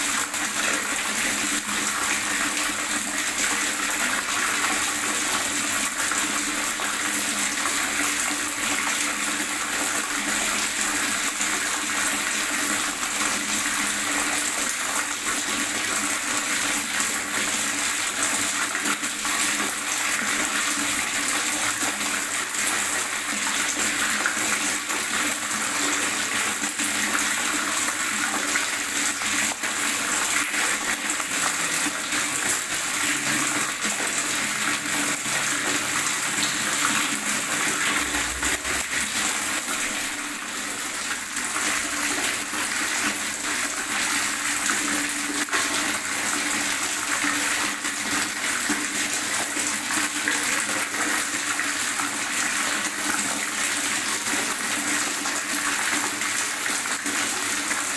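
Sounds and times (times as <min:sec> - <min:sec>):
water gurgling and splashing: 0:00.0 - 0:57.9.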